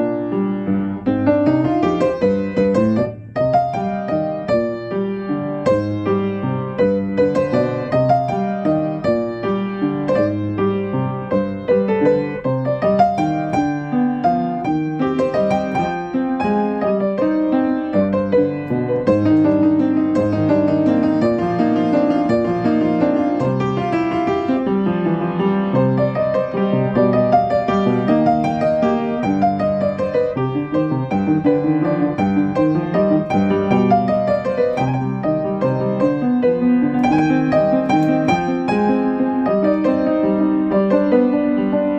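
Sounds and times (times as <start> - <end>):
upright piano: 0.0 - 41.9.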